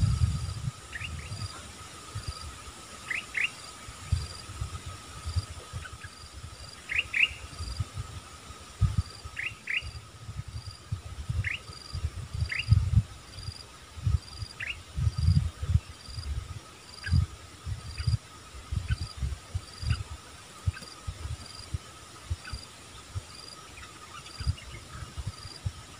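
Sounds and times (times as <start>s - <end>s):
wind buffeting microphone: 0.0s - 2.8s, 3.8s - 25.9s
insect chirping and trilling: 0.0s - 25.9s.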